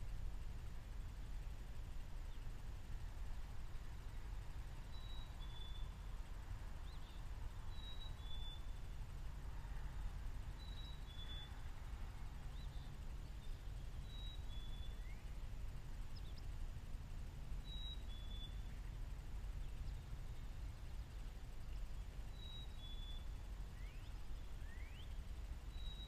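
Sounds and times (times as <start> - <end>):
steady low rumble: 0.0 - 25.8.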